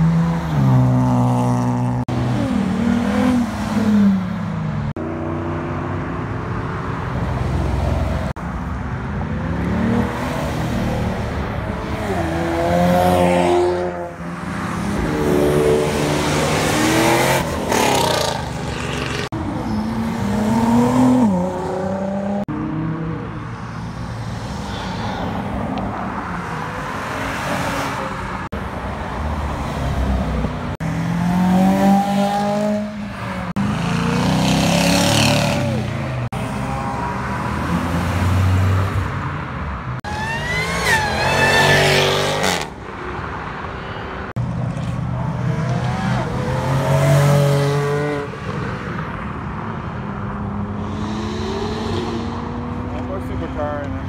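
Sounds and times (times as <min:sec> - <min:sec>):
car engines revving and accelerating: 0:00.0 - 0:54.0.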